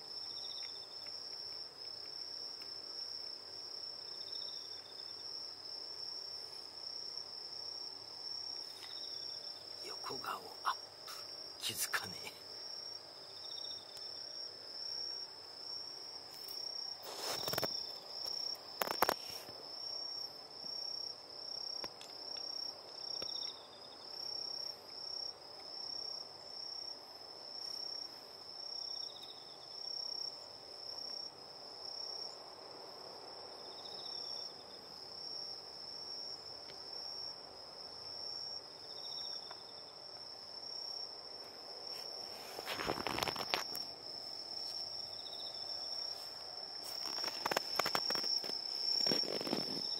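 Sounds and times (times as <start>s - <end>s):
crickets chirping: 0.0s - 49.9s
fainter cricket chirp: 0.0s - 49.9s.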